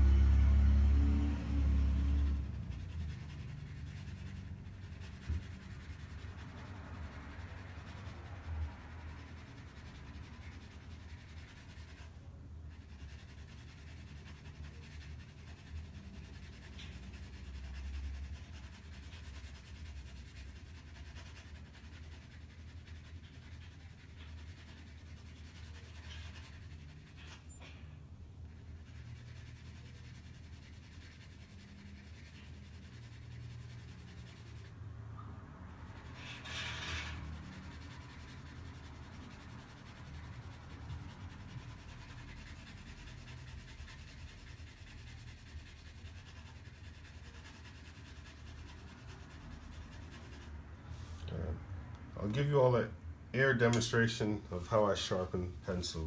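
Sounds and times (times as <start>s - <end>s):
pencil scratching on paper: 0.0s - 27.5s, 28.4s - 51.2s
low steady hum: 0.0s - 56.0s.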